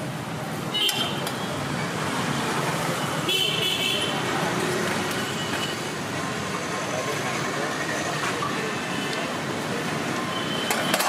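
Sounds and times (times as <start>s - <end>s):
steady traffic noise: 0.0s - 11.0s.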